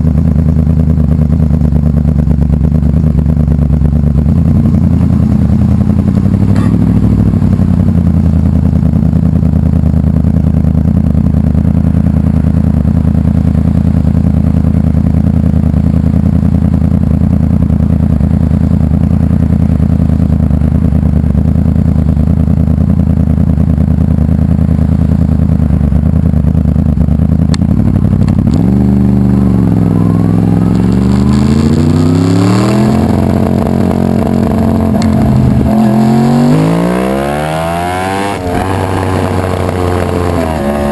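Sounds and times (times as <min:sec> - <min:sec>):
motorcycle engine revving high: 0:00.0 - 0:40.9.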